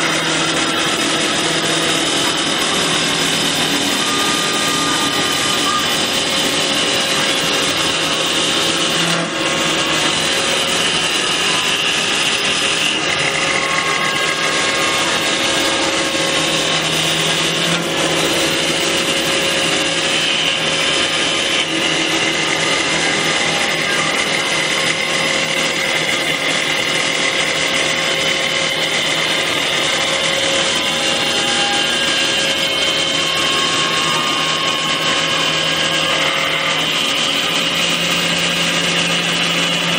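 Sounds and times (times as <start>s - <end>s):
cutter shaving spinning wood: 0.0s - 39.9s
wood lathe whining: 0.0s - 39.9s.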